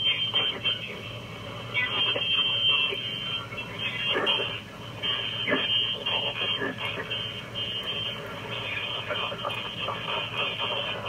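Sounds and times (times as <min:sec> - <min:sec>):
radio hiss and crackle: 0:00.0 - 0:11.0
steady low hum: 0:00.0 - 0:11.0.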